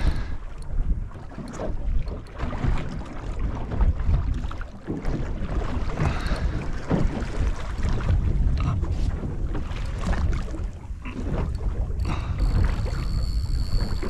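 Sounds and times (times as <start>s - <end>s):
water washing around boat: 0.0s - 14.0s
wind buffeting microphone: 0.0s - 14.0s.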